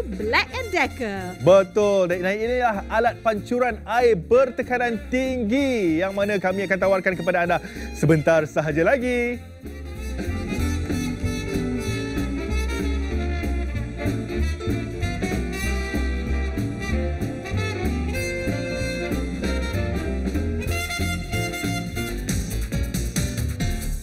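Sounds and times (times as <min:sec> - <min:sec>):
upbeat instrumental music: 0:00.0 - 0:24.0.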